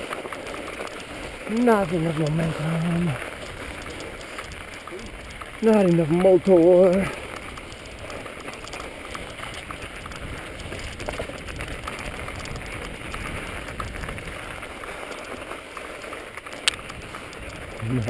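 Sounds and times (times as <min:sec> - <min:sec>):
bike clicks and rattles: 0:00.0 - 0:18.0
bike tyres crunching over snow: 0:00.0 - 0:18.0.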